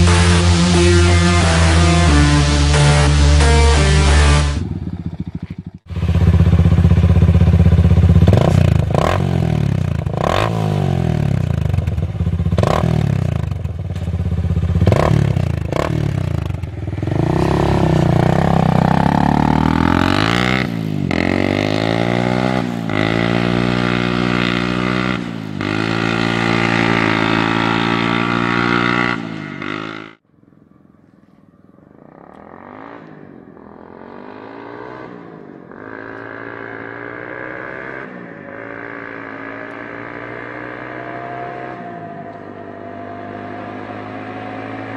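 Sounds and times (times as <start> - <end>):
quad engine revving: 0.0 - 30.2, 32.0 - 44.9.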